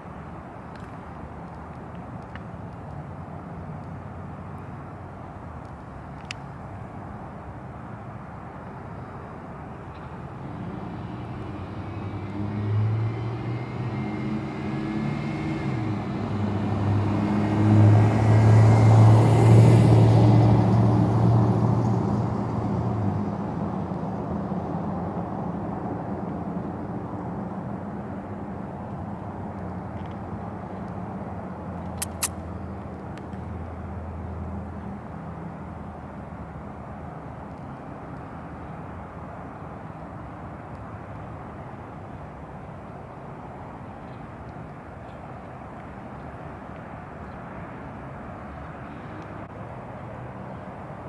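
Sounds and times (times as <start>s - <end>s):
road noise: 0.0s - 51.0s.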